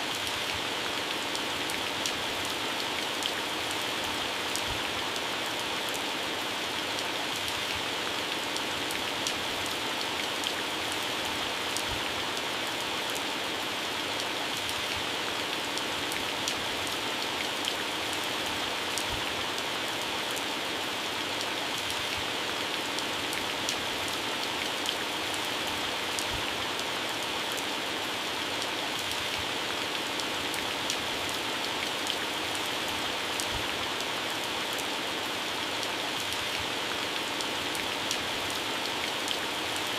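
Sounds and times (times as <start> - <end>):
heavy rain on plants: 0.0 - 39.9.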